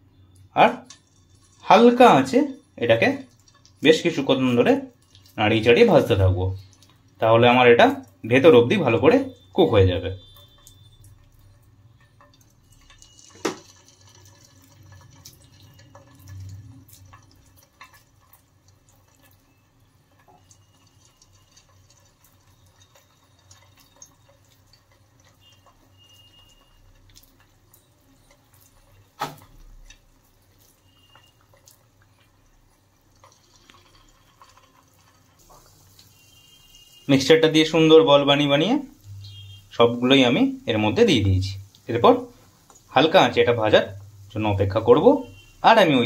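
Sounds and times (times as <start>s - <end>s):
food sizzling in hot oil: 0.2s - 46.0s.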